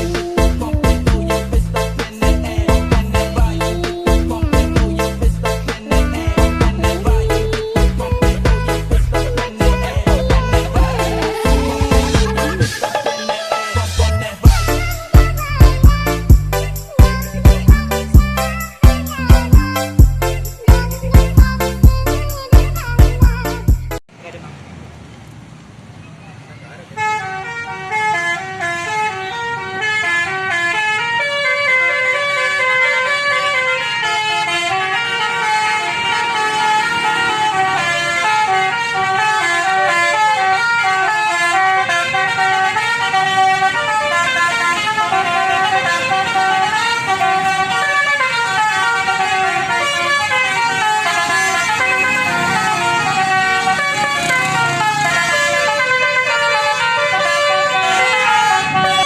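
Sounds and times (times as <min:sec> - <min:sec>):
multi-tone bus horn melody: 0:00.0 - 0:24.0, 0:26.9 - 0:59.0.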